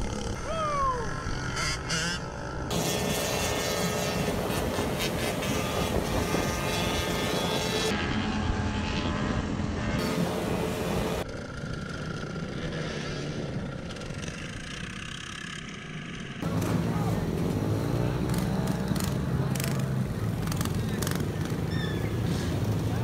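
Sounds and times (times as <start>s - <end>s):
mini bike engines running: 0.0s - 8.0s, 10.0s - 23.0s.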